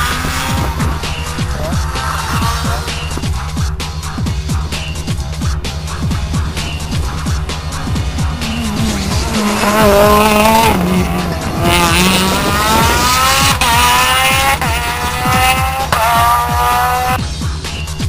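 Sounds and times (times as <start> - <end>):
rally car engine accelerating: 0.0 - 17.2.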